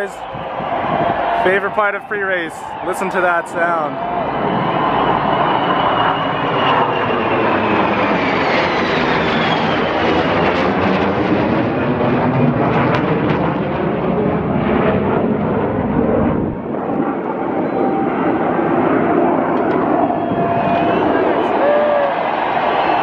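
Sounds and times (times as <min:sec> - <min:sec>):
fighter jets flying over: 0:00.0 - 0:23.0.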